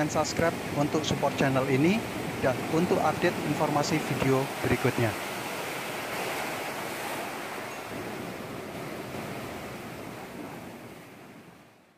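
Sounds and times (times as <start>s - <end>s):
waves breaking on shore: 0.0s - 11.9s.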